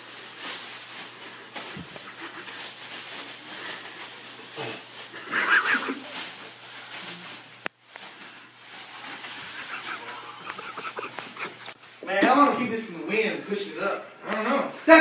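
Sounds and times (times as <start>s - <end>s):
plastic trash bag rustling: 0.0s - 12.8s.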